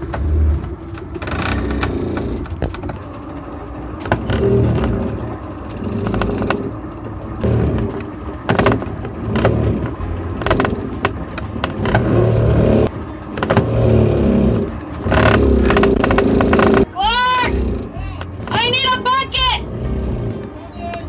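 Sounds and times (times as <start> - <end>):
autopilot drive groaning: 0.0 - 21.0
knocks and rattles: 0.0 - 21.0.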